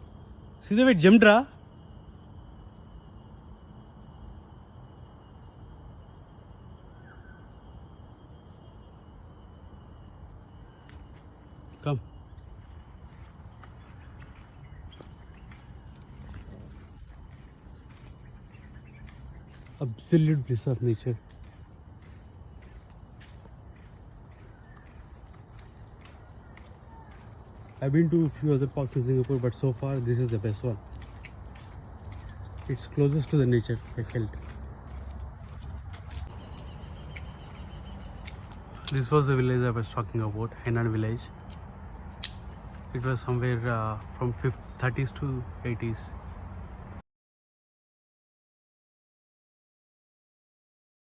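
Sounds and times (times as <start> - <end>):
insect chorus drone: 0.0 - 47.0.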